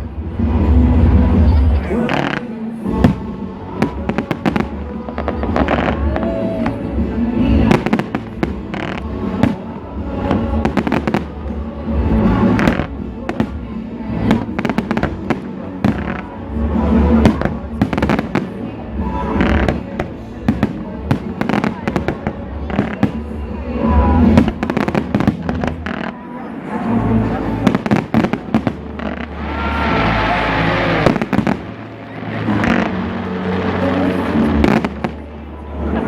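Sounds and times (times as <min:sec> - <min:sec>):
firework bangs and crackles: 0:00.0 - 0:26.2, 0:26.8 - 0:36.0.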